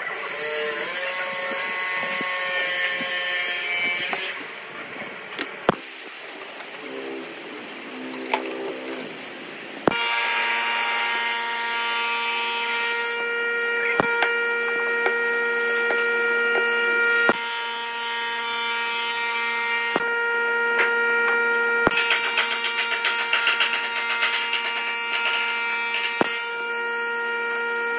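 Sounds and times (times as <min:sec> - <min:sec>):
power tool motor whining: 0:00.0 - 0:05.0, 0:09.8 - 0:27.9.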